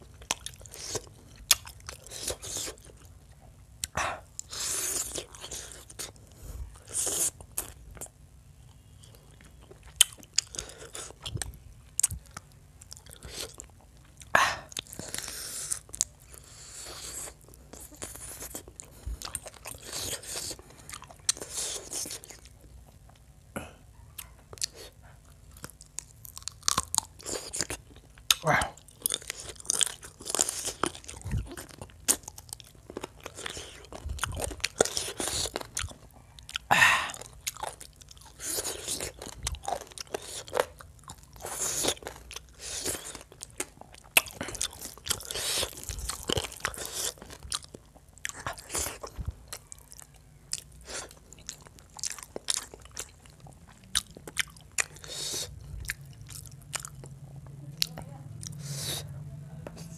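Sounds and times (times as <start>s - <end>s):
man chewing and biting food: 0.0s - 57.6s.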